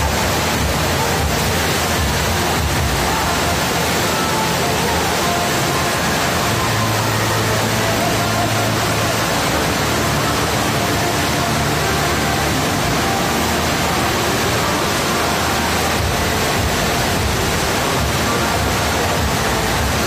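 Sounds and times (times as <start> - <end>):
water rushing up a slope: 0.0 - 20.0.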